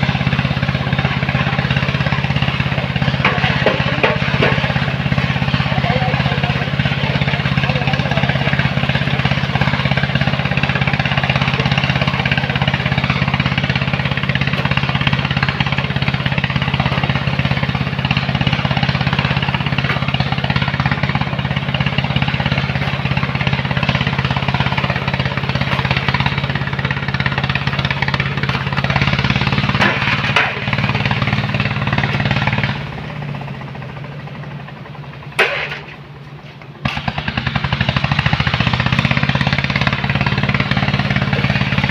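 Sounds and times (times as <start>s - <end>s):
machine engine running under load: 0.0s - 41.9s.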